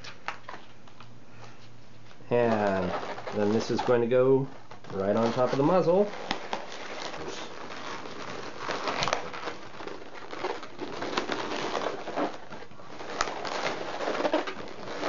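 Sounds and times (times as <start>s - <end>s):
balloons rubbing and squeaking: 2.2s - 15.0s.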